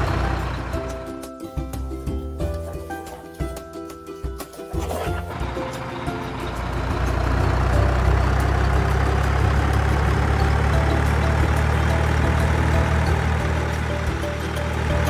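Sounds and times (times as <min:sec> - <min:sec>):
light music melody: 0:00.0 - 0:15.0
truck engine idling: 0:00.0 - 0:15.0.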